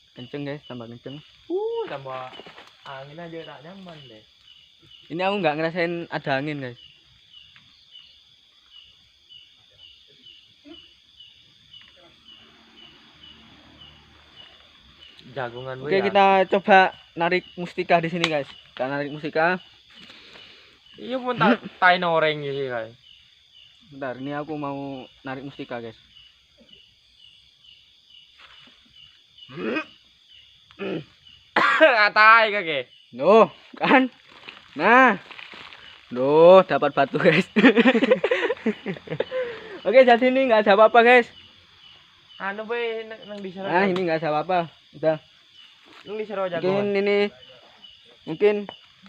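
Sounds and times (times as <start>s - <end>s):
insects trilling: 0.0s - 49.0s
short insect chirps: 0.0s - 49.0s.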